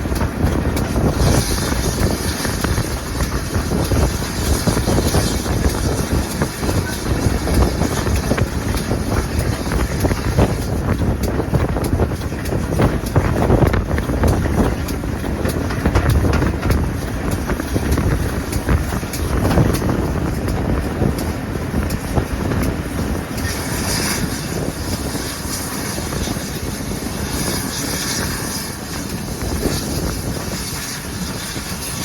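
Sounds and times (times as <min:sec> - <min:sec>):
moving train rumble: 0:00.0 - 0:32.0
wind buffeting microphone: 0:00.0 - 0:32.0.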